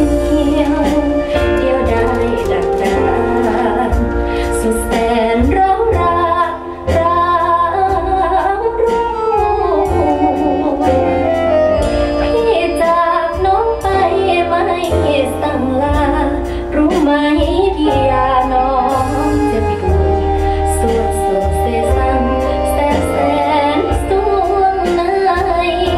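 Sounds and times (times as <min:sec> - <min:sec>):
instrumental backing: 0:00.0 - 0:25.9
woman singing slow song: 0:00.0 - 0:25.9.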